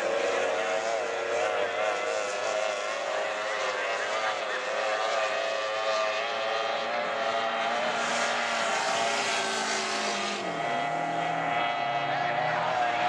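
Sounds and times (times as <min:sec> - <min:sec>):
racing outboard motor revving: 0:00.0 - 0:13.0.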